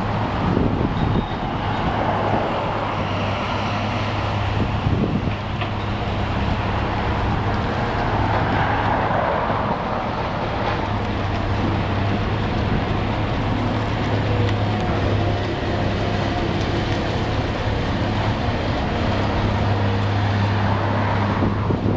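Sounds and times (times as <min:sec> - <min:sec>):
excavator diesel engine running: 0:00.0 - 0:21.9.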